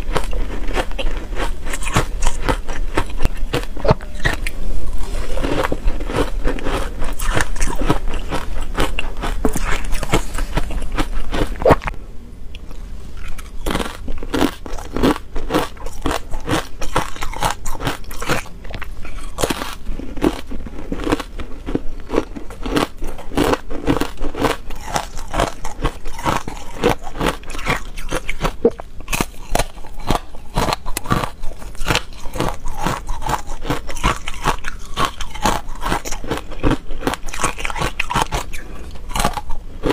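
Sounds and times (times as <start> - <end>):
ice being crunched and chewed: 0.0 - 11.9, 13.2 - 39.9.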